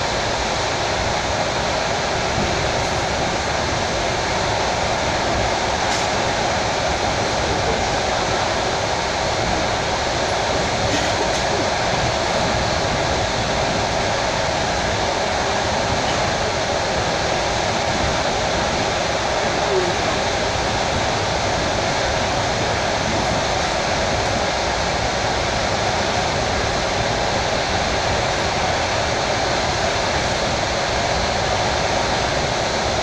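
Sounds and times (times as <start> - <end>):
train running noise inside carriage: 0.0 - 33.0.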